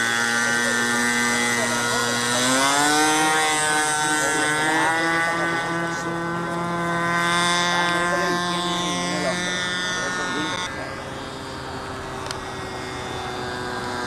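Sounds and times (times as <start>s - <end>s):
model aircraft engine revving: 0.0s - 14.0s.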